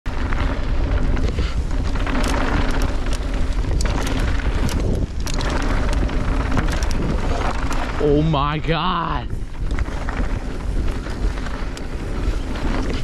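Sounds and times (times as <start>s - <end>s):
bike clicks and rattles: 0.1s - 13.0s
tyres rolling over gravel: 0.1s - 13.0s
wind buffeting microphone: 0.1s - 13.0s.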